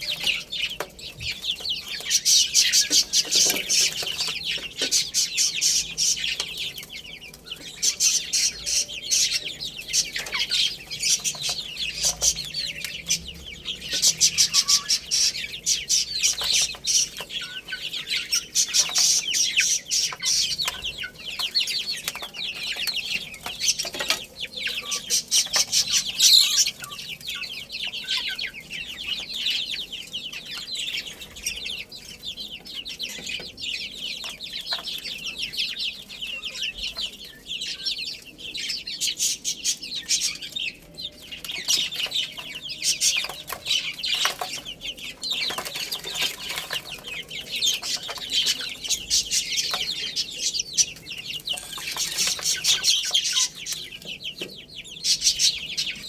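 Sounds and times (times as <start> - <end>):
baby chicks peeping: 0.0 - 56.0.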